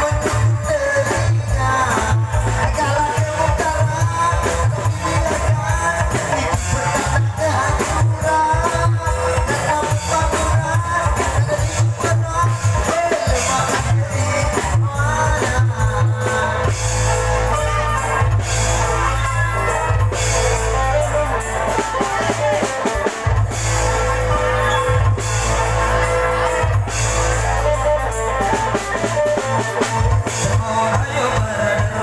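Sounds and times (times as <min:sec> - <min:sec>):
band music with drums and guitar: 0:00.0 - 0:32.0.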